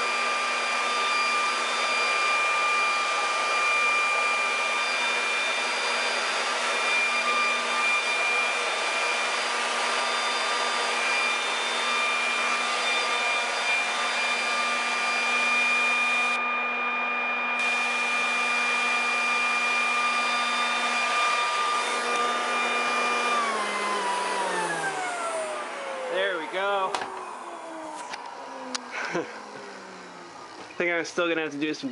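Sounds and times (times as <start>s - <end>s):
leaf blower whining: 0.0s - 31.9s.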